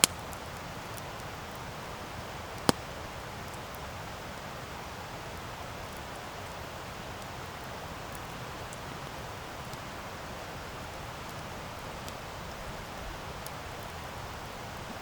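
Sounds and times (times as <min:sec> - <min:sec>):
campfire hissing and crackling: 0:00.0 - 0:15.0.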